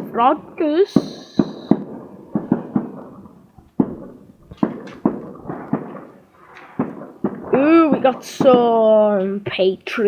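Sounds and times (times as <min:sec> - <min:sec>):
fireworks bangs and pops: 0:00.8 - 0:09.5.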